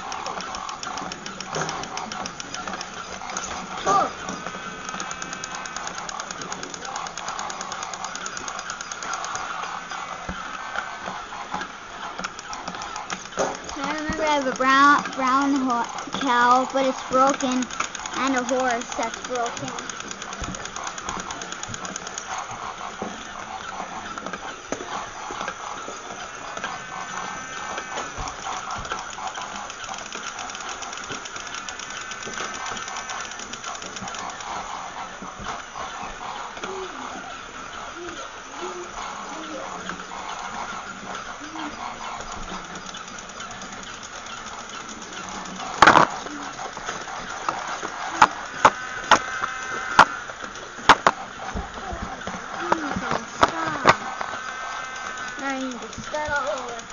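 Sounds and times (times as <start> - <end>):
sharp clicks: 0.0 - 56.9
toy motor and gears whirring: 0.0 - 56.9.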